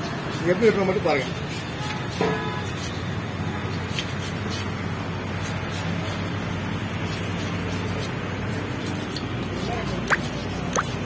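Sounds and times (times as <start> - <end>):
knife scraping fish skin: 0.0 - 11.0.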